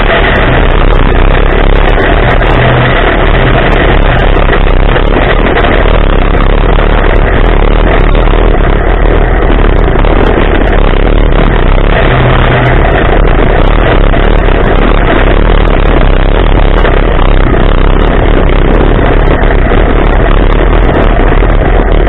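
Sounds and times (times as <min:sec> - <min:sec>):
constant rattling: 0:00.0 - 0:22.0
engine running hard: 0:00.0 - 0:22.0
wind noise: 0:00.0 - 0:22.0.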